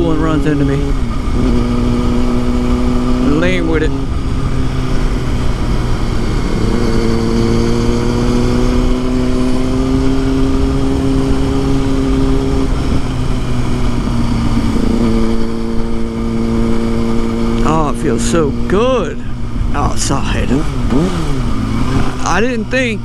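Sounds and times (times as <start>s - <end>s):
constant low rumble: 0.0s - 23.0s
motorcycle engine running: 0.0s - 23.0s.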